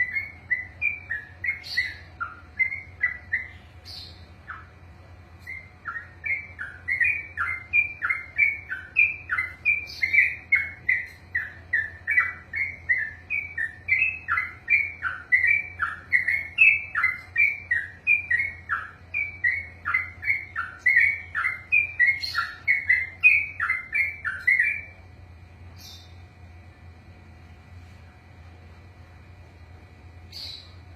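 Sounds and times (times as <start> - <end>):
bulbul singing repeated falling notes: 0.0 - 25.1.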